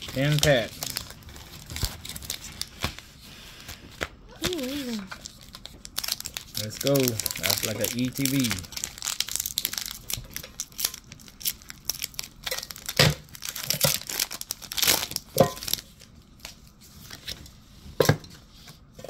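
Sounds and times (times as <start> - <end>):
foil wrapper tearing and crinkling: 0.0 - 17.4.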